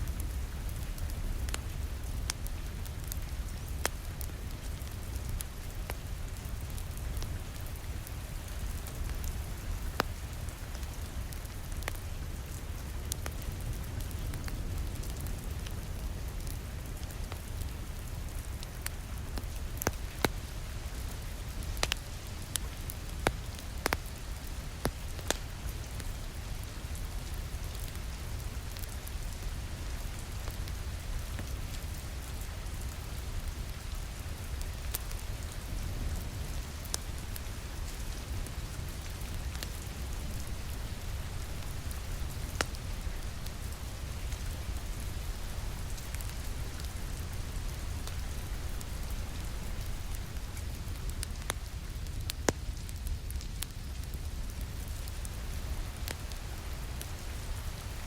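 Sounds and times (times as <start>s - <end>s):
rain: 0.0s - 58.0s
wood fire popping: 0.0s - 58.0s.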